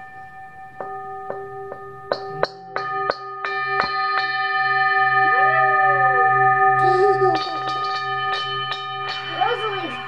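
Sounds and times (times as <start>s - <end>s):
singing bowl struck and ringing: 0.0s - 10.0s.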